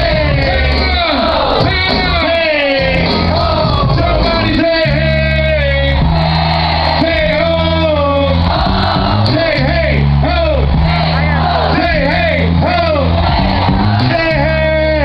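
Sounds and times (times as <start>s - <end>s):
long held bass notes: 0.0s - 15.0s
voices singing and shouting: 0.0s - 15.0s.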